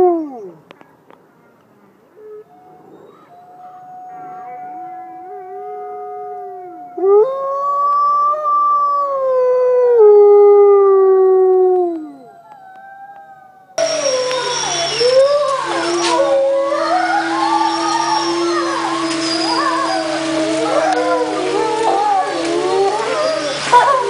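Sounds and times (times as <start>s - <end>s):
wolves howling: 2.2s - 24.0s
loud falling wolf howl: 2.4s - 24.0s.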